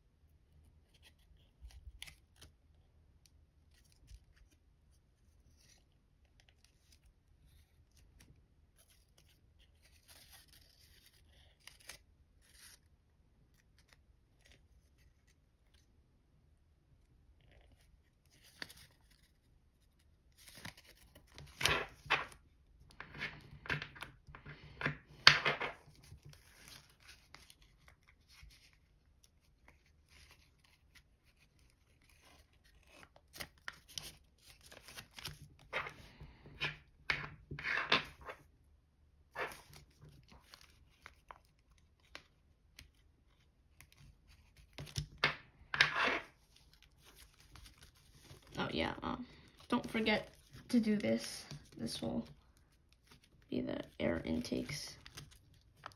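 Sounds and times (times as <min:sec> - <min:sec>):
paper rustling and crinkling: 0:03.6 - 0:15.9, 0:17.4 - 0:38.5, 0:39.3 - 0:48.6, 0:49.3 - 0:55.9.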